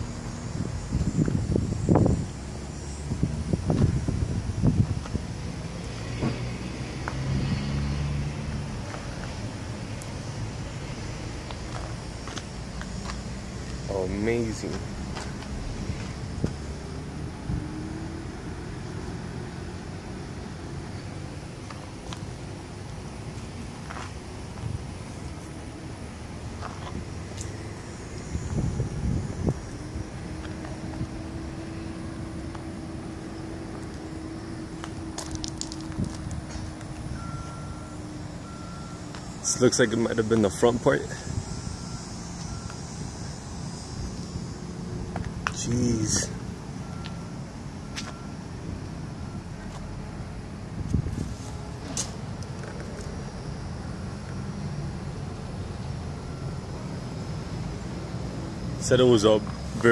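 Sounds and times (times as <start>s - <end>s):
road traffic rumble: 0.0s - 59.9s
vehicle engine droning: 0.0s - 59.9s.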